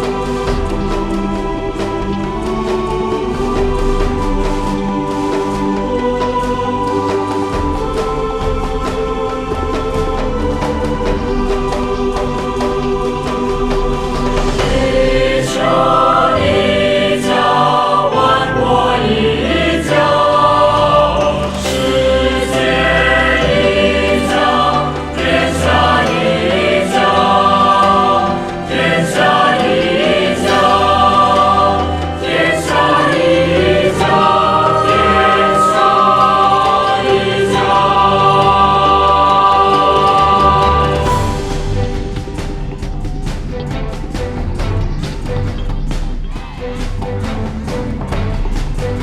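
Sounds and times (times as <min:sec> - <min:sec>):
backing music with beat: 0:00.0 - 0:49.0
choir singing: 0:00.0 - 0:49.0.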